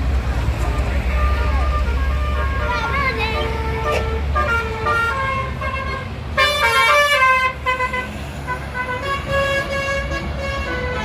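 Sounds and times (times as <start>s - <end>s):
bus rumbling past: 0.0s - 11.0s
bus horn playing a melody: 1.0s - 11.0s.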